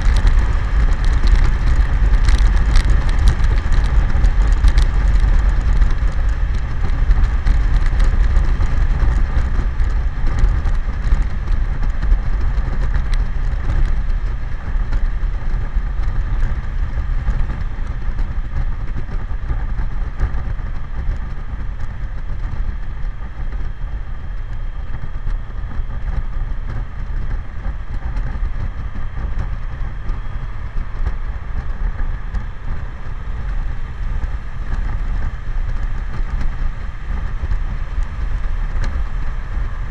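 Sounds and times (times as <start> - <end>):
motorcycle engine humming: 0.0 - 39.9
wind buffeting microphone: 0.0 - 39.9.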